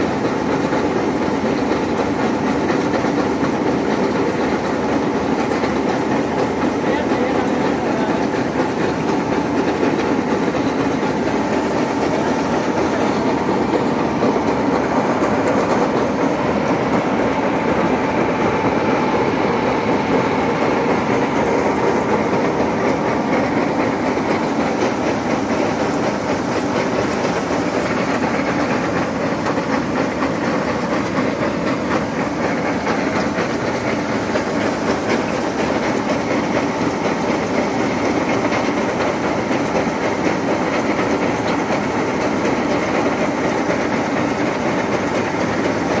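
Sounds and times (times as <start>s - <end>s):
auger pouring grain: 0.0s - 46.0s
combine harvester running: 0.0s - 46.0s.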